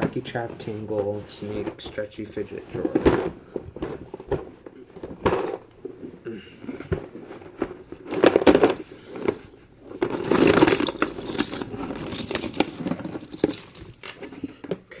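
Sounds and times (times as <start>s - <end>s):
plastic toys clattering: 1.3s - 6.0s, 6.7s - 15.0s.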